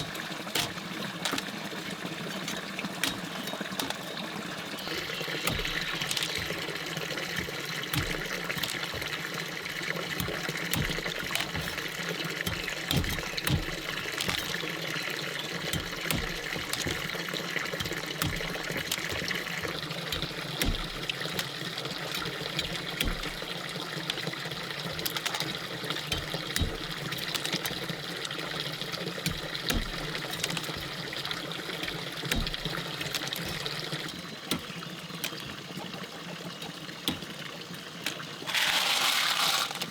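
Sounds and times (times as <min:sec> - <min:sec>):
small clicks and knocks: 0:00.0 - 0:39.9
water trickling: 0:00.0 - 0:39.9.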